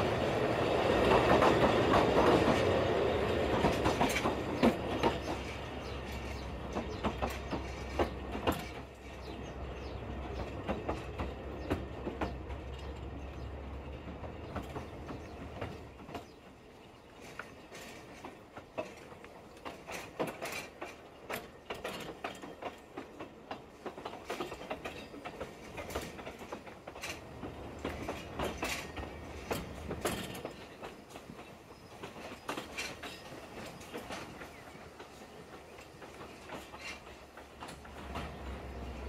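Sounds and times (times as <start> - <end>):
train rumble: 0.0 - 39.0
train wheels clicking over joints: 0.0 - 39.0.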